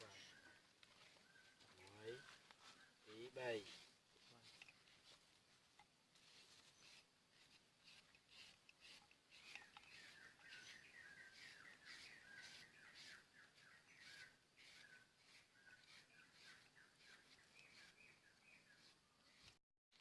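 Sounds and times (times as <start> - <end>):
faint bird chirping: 0.0 - 5.2, 6.2 - 19.6.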